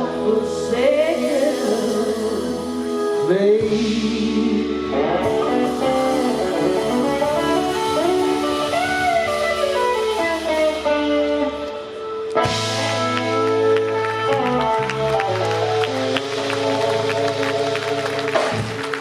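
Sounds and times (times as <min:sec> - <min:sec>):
electric guitar bending notes: 0:00.0 - 0:19.0
live blues band playing: 0:00.0 - 0:19.0.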